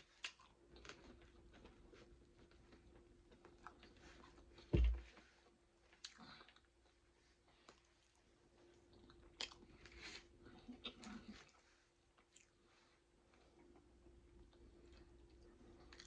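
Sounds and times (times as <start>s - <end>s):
chewing and crunching: 0.0s - 4.7s, 5.9s - 16.0s.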